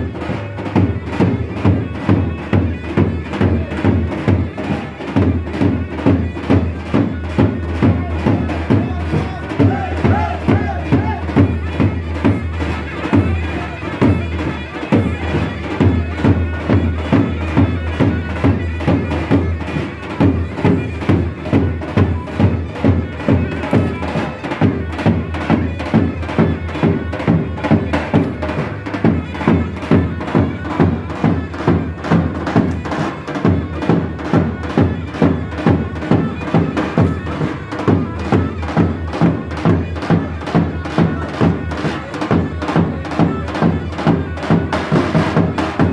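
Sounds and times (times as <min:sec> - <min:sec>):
shrill reed wind instrument: 0:00.0 - 0:45.9.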